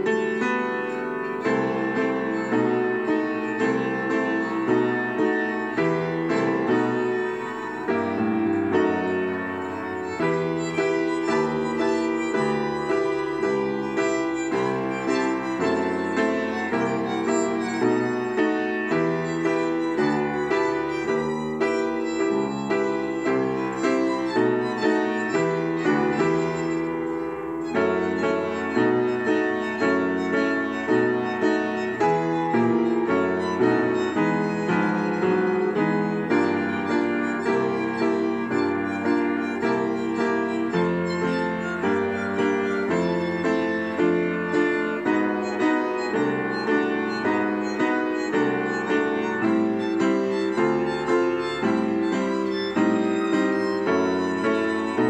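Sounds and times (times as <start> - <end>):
upright piano lively tune: 0.0 - 55.0.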